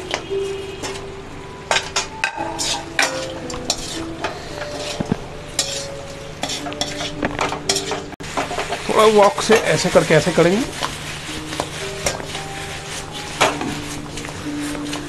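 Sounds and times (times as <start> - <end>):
metal spatula scraping a wok: 1.7 - 15.0
sauce sizzling in a wok: 2.4 - 15.0.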